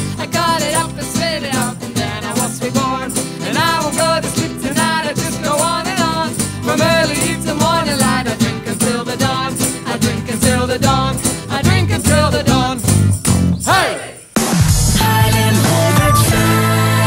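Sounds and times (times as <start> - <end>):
person singing: 0.0 - 12.9, 15.0 - 17.0
keyboard: 0.0 - 17.0
strummed acoustic guitar: 0.0 - 17.0.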